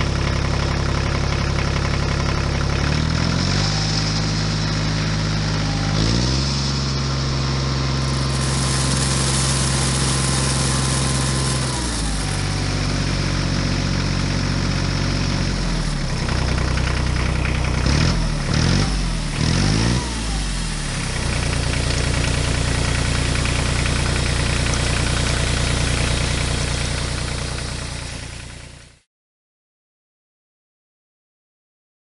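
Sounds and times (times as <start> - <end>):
tractor engine idling: 0.0 - 29.0.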